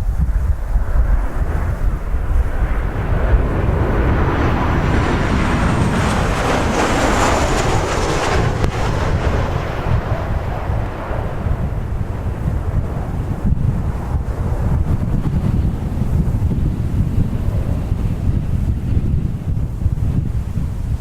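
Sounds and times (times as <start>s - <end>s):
jet airliner passing overhead: 0.0s - 21.0s
wind rumble on microphone: 0.0s - 21.0s.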